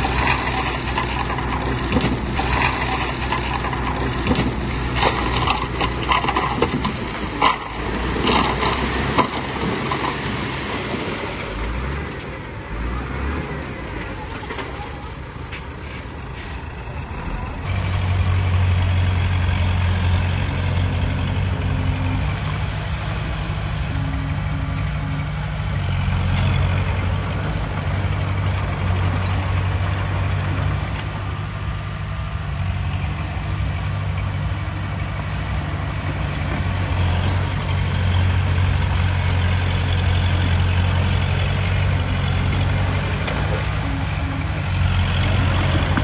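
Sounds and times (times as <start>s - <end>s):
diesel engine droning: 0.0s - 46.0s.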